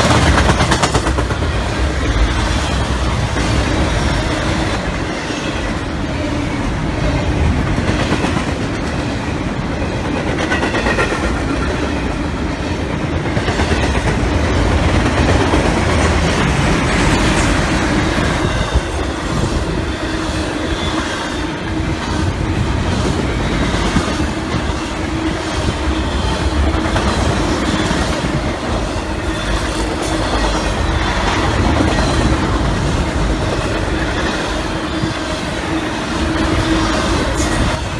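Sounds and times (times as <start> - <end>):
freight train rumbling: 0.0 - 37.9.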